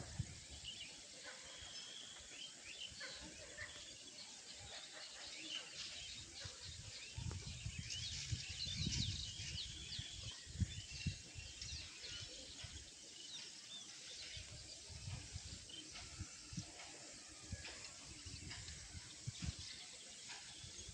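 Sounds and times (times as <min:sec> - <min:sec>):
faint outdoor hiss: 0:00.0 - 0:20.9
small birds chirping: 0:00.0 - 0:20.9.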